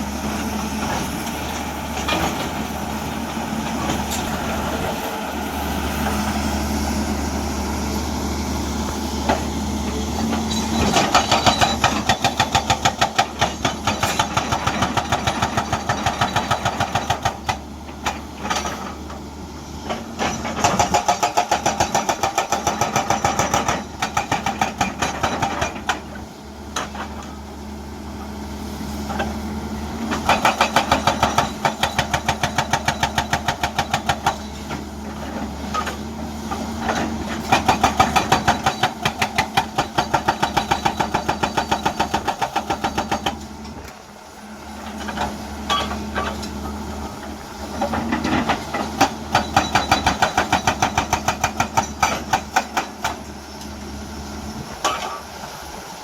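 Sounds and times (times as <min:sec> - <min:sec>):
excavator engine running: 0:00.0 - 0:56.0
hydraulic breaker pounding rock: 0:00.3 - 0:05.2, 0:08.8 - 0:27.5, 0:28.2 - 0:44.0, 0:44.8 - 0:53.8, 0:54.5 - 0:55.3.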